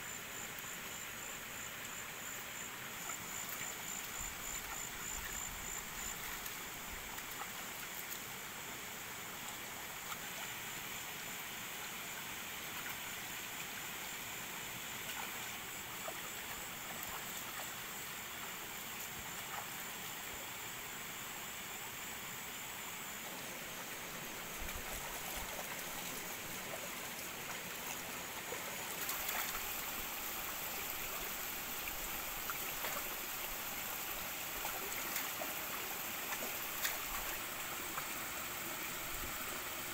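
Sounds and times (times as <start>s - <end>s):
stream trickling over rocks: 0.2s - 39.9s.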